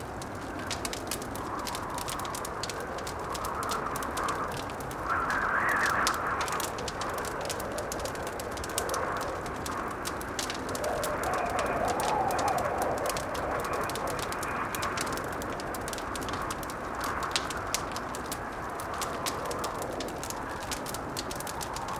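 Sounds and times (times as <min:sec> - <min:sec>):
howling blizzard wind: 0:00.0 - 0:21.9
wood fire crackling: 0:00.0 - 0:21.9.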